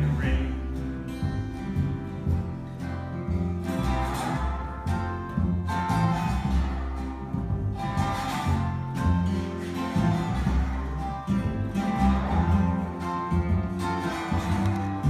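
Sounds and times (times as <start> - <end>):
acoustic guitar country music: 0.0 - 15.0.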